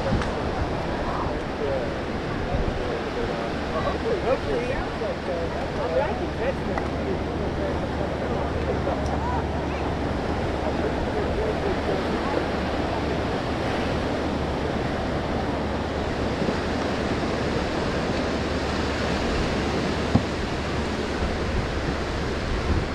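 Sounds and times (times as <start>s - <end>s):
ocean surf on a beach: 0.0s - 22.9s
wind on microphone: 0.0s - 22.9s.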